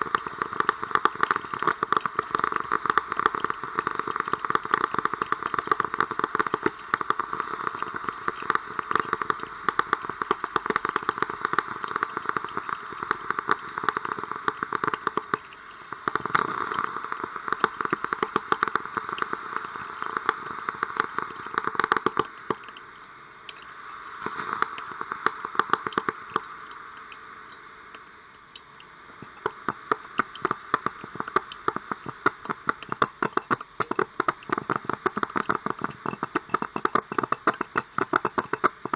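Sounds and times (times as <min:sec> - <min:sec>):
coffee machine gurgling: 0:00.0 - 0:38.9.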